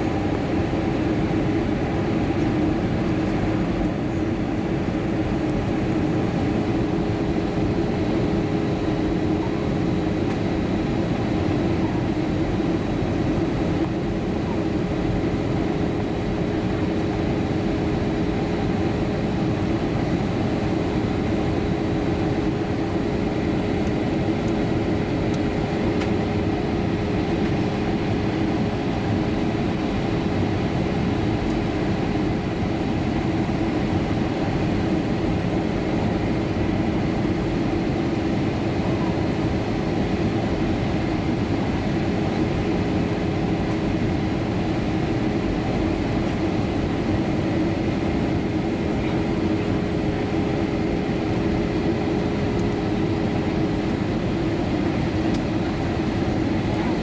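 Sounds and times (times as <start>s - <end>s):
jet engines droning: 0.0s - 57.0s
steady hum: 0.0s - 57.0s.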